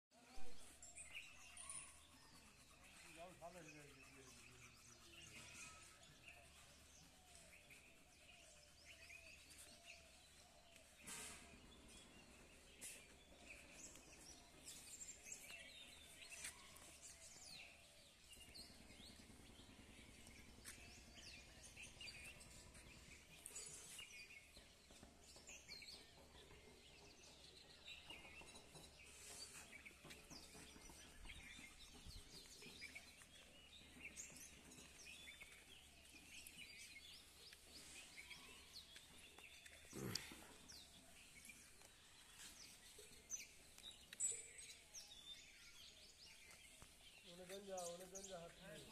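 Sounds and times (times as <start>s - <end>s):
bird chirps: 0.1s - 48.9s.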